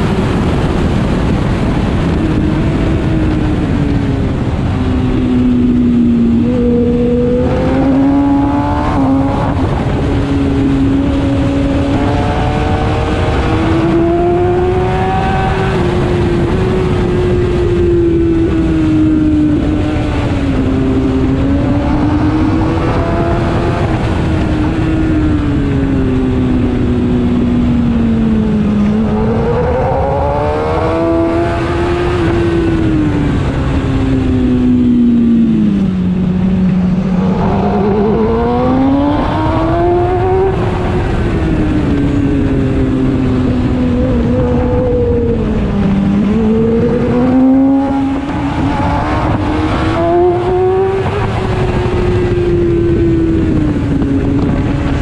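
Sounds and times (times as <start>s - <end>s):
wind rushing: 0.0s - 27.6s, 28.2s - 55.0s
motorcycle engine accelerating: 0.0s - 55.0s.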